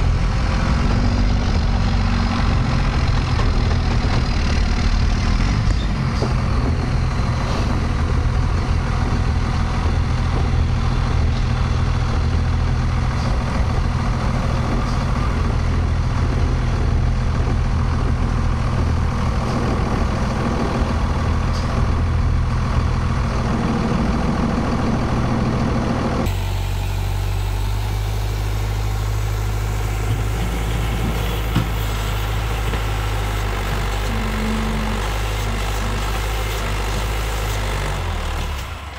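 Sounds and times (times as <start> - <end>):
backhoe diesel engine running: 0.0 - 38.9
turbo diesel truck engine: 0.0 - 38.9.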